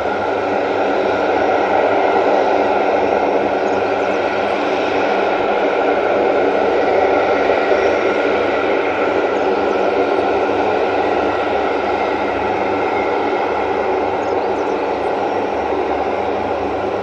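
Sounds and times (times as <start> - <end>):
aircraft engines running: 0.0 - 17.0.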